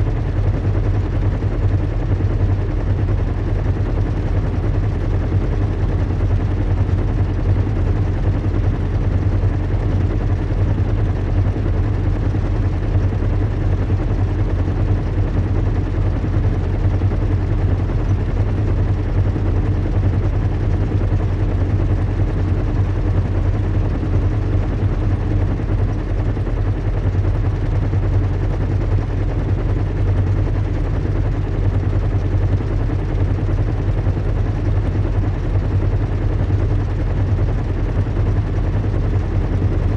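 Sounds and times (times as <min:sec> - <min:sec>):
deep engine hum: 0:00.0 - 0:39.9.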